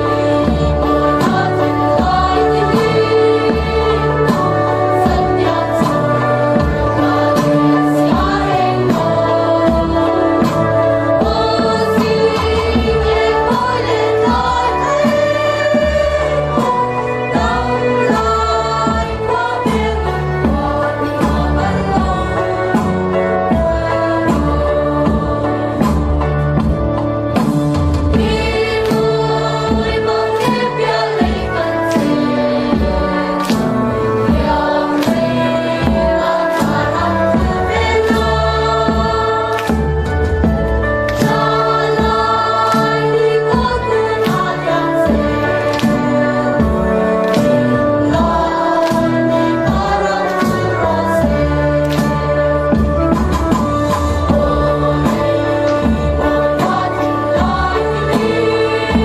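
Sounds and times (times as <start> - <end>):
choir singing: 0.0 - 26.6, 27.4 - 59.0.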